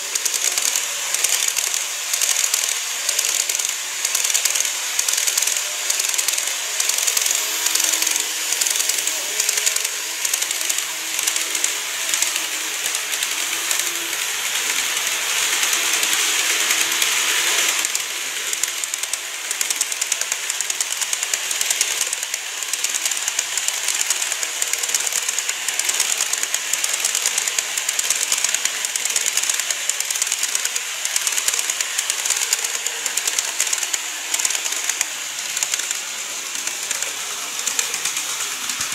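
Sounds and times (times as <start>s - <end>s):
hiss of running gear: 0.0s - 38.9s
model train wheels clicking on rails: 0.0s - 38.9s.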